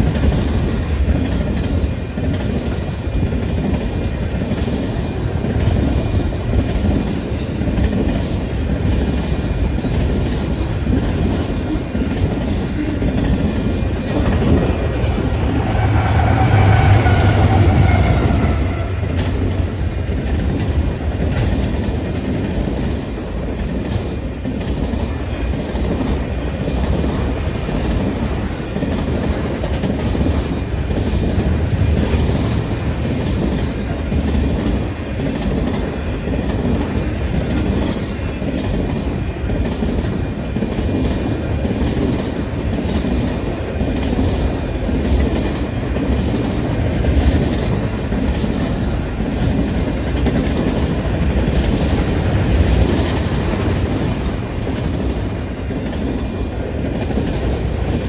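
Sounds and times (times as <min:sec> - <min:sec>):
train cars rumbling: 0:00.0 - 0:58.0.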